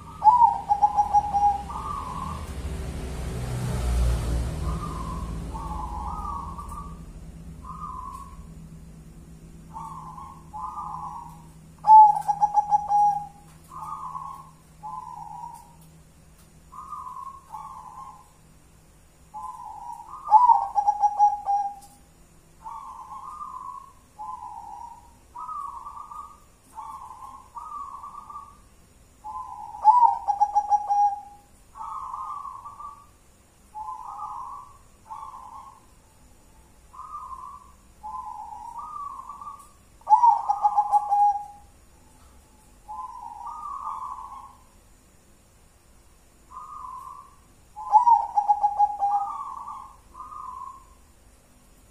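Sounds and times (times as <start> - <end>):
dove cooing: 0.0 - 2.8, 4.0 - 8.8, 9.6 - 15.9, 16.6 - 18.4, 19.3 - 22.0, 22.6 - 44.8, 46.5 - 51.0.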